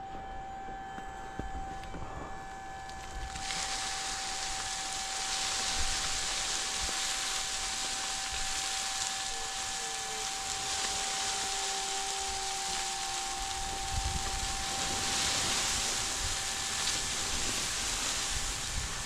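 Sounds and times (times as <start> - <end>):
chipper high whine: 0.0 - 19.0
wood chips pattering into truck bed: 2.8 - 19.0.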